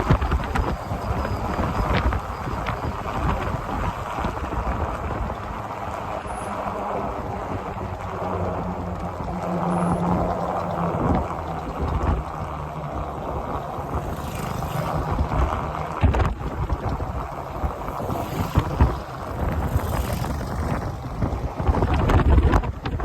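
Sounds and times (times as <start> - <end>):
vehicle driving rumble: 0.0 - 23.0
wind buffeting microphone: 0.0 - 23.0.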